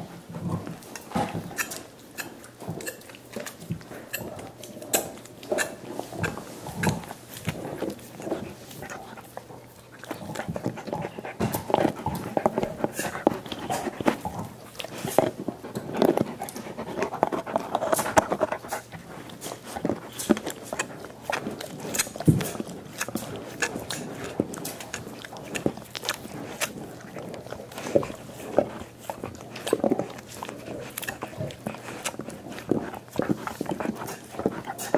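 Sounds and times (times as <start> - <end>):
dogs gnawing and slurping bones: 0.0 - 34.9.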